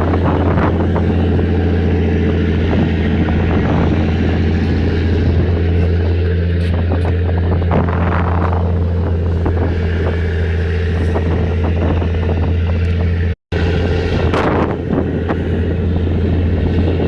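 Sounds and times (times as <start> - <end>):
boat engine humming: 0.0 - 17.0
water rushing: 0.0 - 17.0
wind: 0.0 - 17.0.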